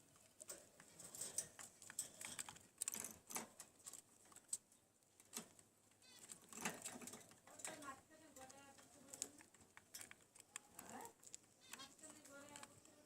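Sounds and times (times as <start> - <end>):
beaks and claws scratching: 0.0 - 13.0.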